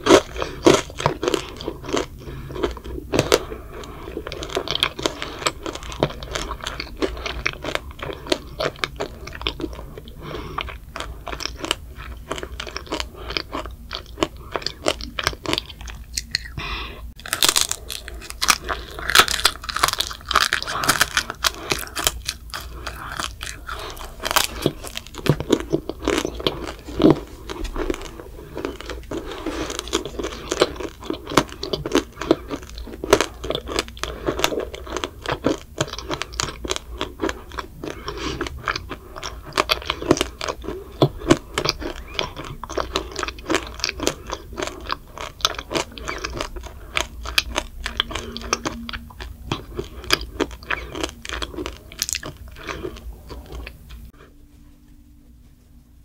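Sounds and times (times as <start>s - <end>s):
child chewing crunchy sugar glaze: 0.0s - 54.5s.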